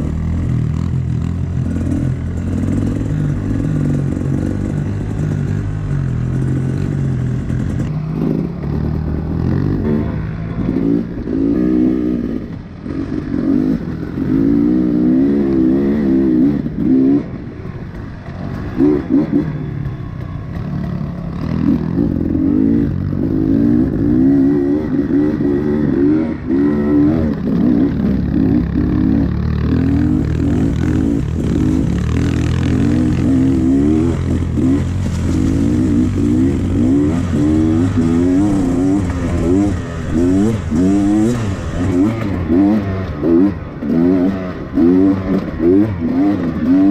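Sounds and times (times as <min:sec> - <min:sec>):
motorbike engine revving: 0:00.0 - 0:46.9.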